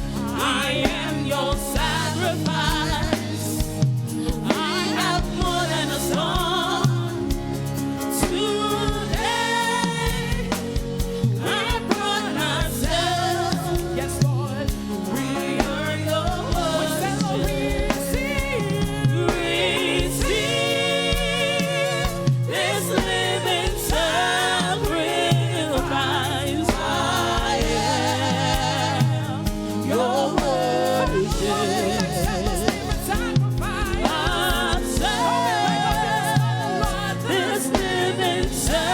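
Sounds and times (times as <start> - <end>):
band accompaniment with steady beat: 0.0 - 38.9
voices singing with vibrato: 0.0 - 38.9.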